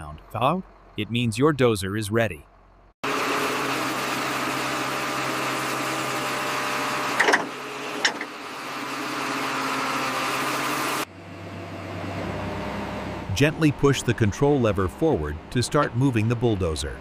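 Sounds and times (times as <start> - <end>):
engine idling with hum: 0.0 - 8.8, 11.0 - 17.0.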